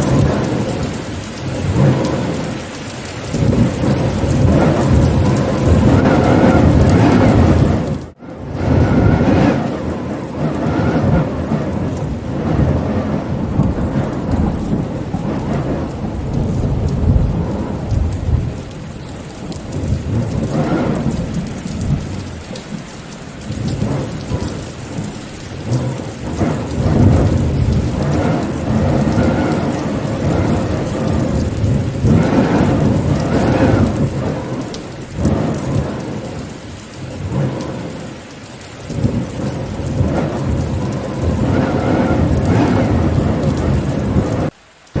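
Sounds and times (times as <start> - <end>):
deep thunder rumbling: 0.0 - 45.0
steady rain: 0.0 - 45.0.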